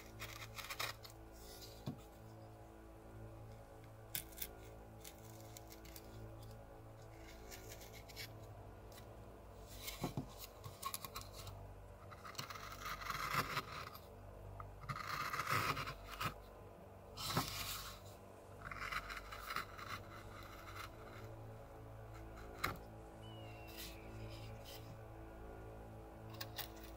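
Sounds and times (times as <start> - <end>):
carving gouge scraping bark: 0.0 - 2.2, 4.0 - 14.1, 14.8 - 16.5, 17.2 - 25.0, 26.3 - 26.9.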